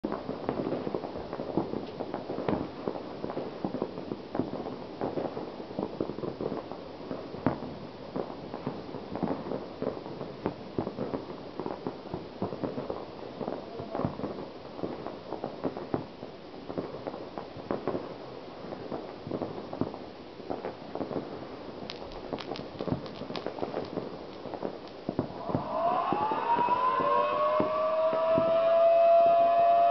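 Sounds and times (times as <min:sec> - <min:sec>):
fireworks banging and popping: 0:00.0 - 0:29.9.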